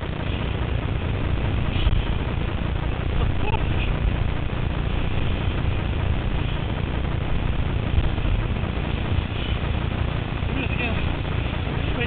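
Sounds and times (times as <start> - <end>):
rushing water and spray: 0.0 - 12.0
wind buffeting microphone: 0.0 - 12.0.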